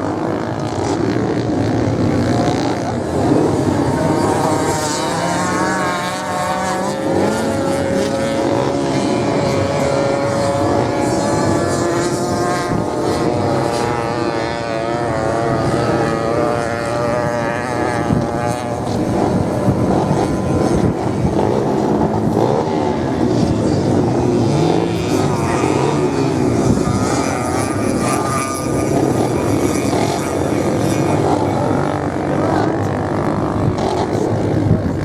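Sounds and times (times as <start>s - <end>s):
racing motorcycles revving: 0.0s - 35.0s.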